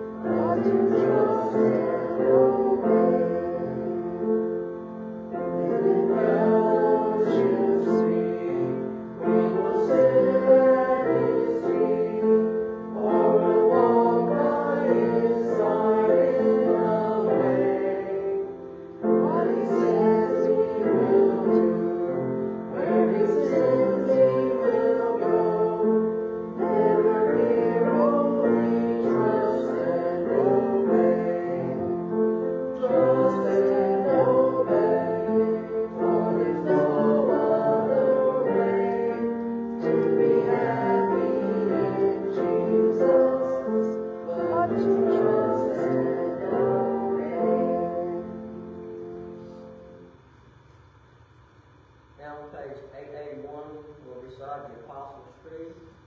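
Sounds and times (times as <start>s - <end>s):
voices singing a hymn: 0.0s - 50.2s.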